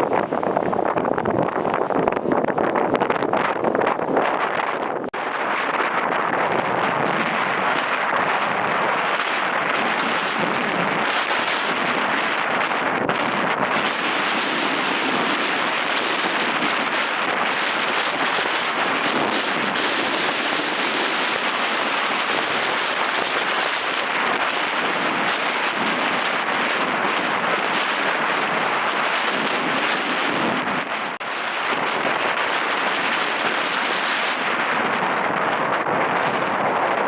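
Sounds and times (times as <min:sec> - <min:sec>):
jet engines roaring: 0:02.8 - 0:37.0.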